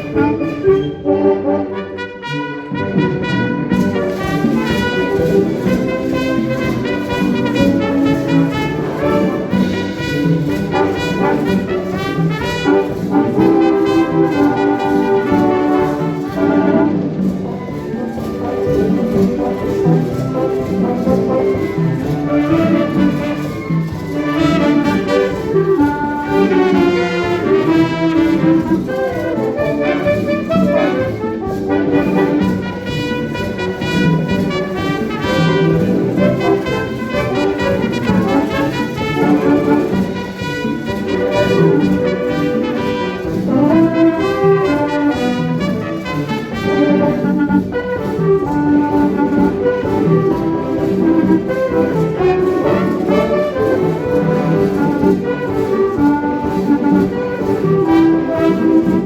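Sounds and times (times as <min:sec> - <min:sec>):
trumpets and trombones: 0:00.0 - 0:59.0
wind band playing: 0:00.0 - 0:59.0.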